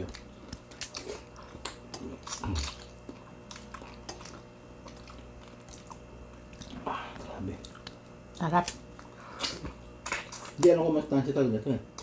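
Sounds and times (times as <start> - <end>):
chewing and biting: 0.0 - 10.8.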